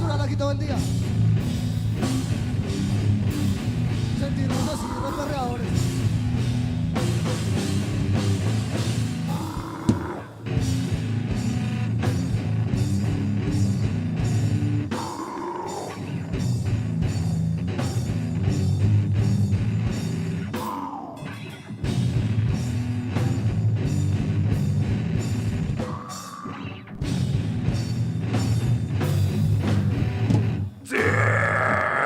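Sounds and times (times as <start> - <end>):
bass riffs: 0.0 - 20.7, 21.8 - 32.0
distorted guitar riffs: 0.0 - 32.0.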